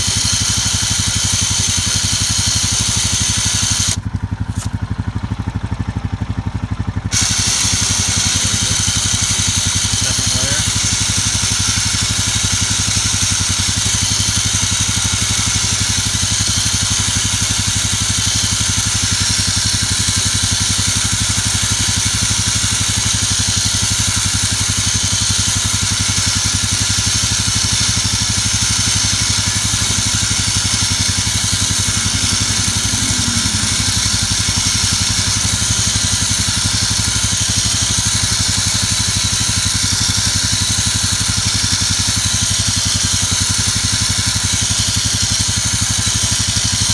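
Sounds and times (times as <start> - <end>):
electric winch running: 0.0 - 4.8, 7.0 - 46.9
atv engine idling: 0.0 - 46.9.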